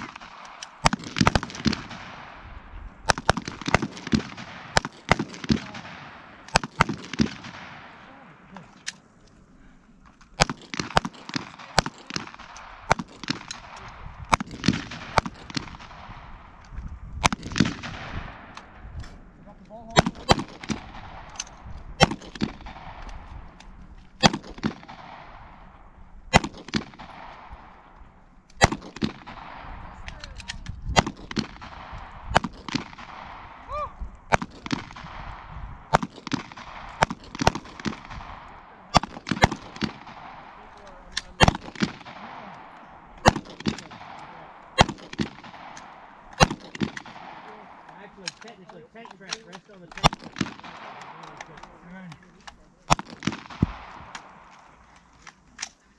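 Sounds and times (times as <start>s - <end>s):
rifle and pistol gunshots echoing: 0.0s - 55.9s.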